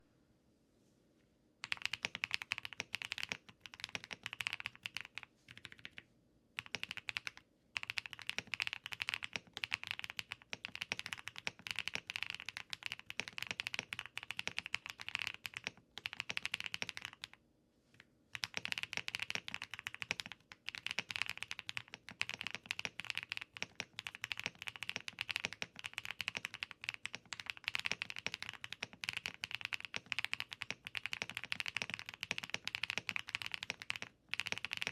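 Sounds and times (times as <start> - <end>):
mechanical keyboard typing: 1.6 - 6.0, 6.6 - 17.4, 18.3 - 34.9.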